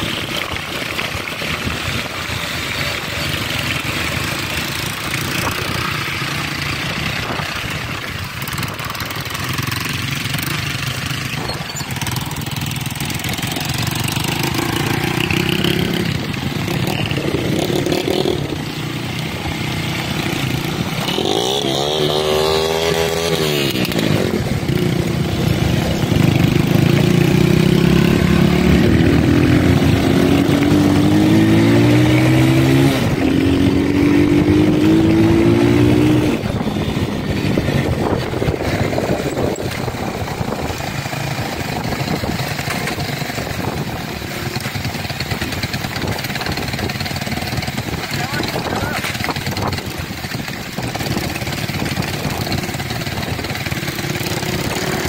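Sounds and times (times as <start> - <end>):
motorcycle accelerating: 0.0 - 55.0
wind noise: 4.9 - 9.2, 11.3 - 55.0.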